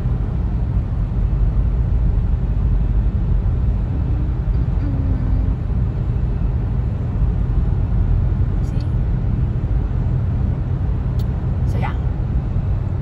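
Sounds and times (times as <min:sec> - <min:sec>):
car driving heard from inside: 0:00.0 - 0:13.0.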